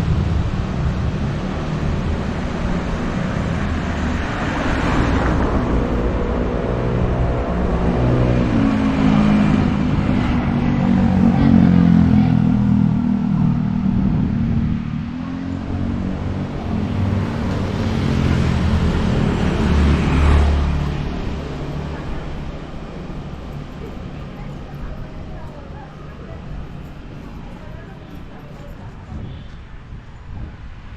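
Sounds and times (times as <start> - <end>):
vehicle engines passing: 0.0 - 30.9.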